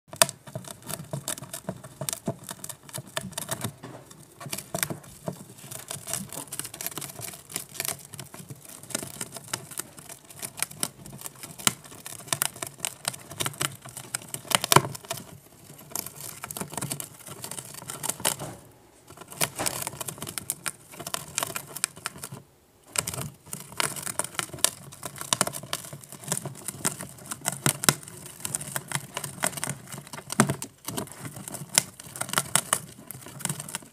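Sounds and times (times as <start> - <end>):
gerbils gnawing cardboard: 0.1 - 33.9.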